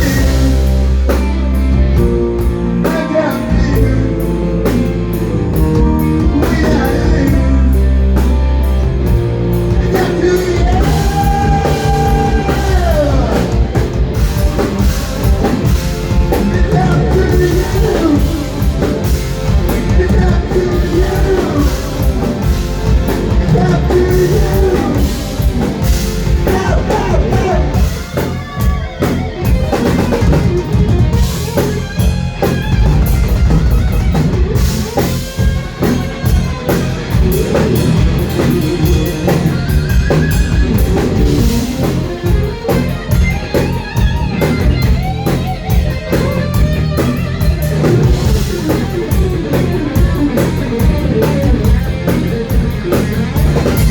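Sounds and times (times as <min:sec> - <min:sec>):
lead guitar lines bending: 0:00.0 - 0:53.9
rock band playing live: 0:00.0 - 0:53.9.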